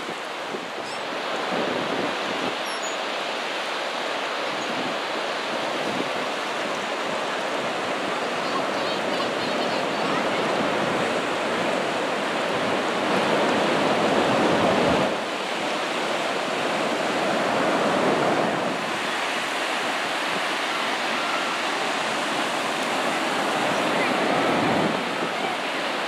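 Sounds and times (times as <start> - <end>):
wind on microphone: 0.0 - 3.2, 4.2 - 26.0
ocean surf on beach: 0.0 - 26.0.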